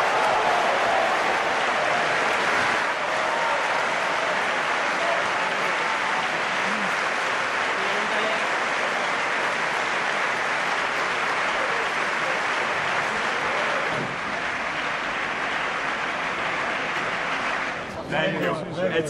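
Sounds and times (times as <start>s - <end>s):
audience applauding: 0.0s - 18.3s.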